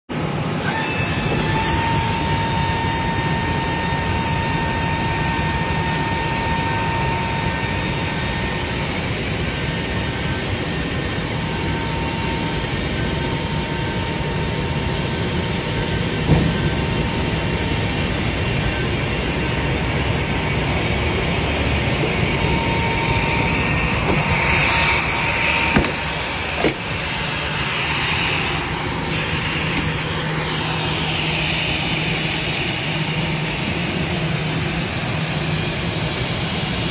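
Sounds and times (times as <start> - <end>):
faint steady whine: 0.1 - 36.9
jet engine noise: 0.1 - 36.9
low hum: 0.1 - 36.9
airliner taxiing past: 0.4 - 36.9.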